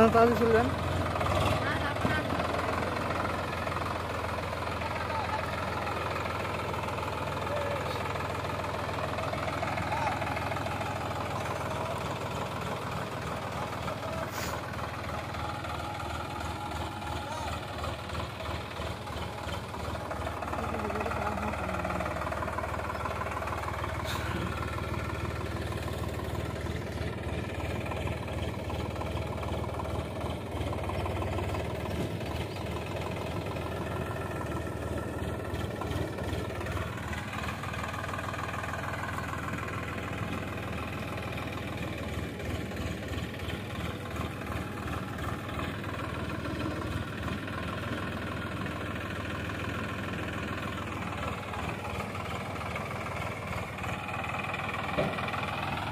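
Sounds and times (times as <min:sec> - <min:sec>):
tractor diesel engine under load: 0:00.0 - 0:55.9.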